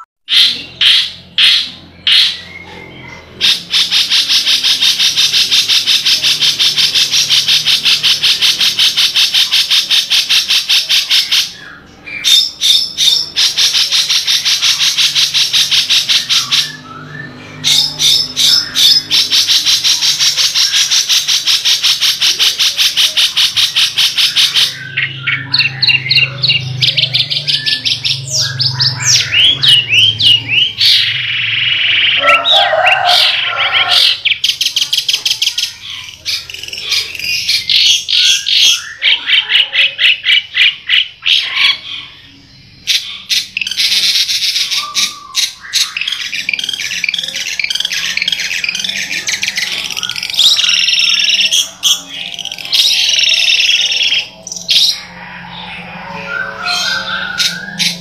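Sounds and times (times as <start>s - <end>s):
shrike singing: 0.0s - 58.0s.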